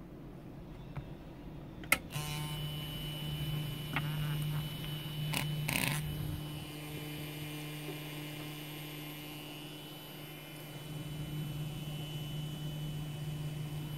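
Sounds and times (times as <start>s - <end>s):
electric motor humming: 2.1s - 13.9s.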